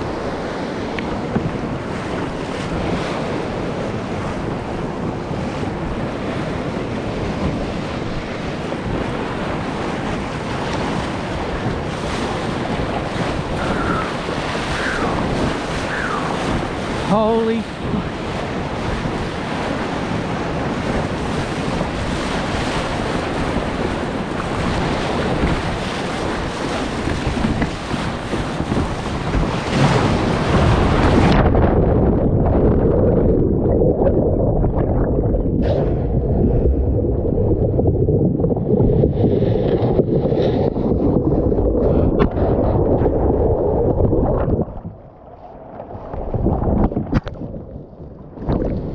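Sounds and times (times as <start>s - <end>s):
breaking surf rushing: 0.0s - 47.8s
muffled underwater churning: 0.0s - 48.9s
wind buffeting microphone: 0.0s - 48.9s.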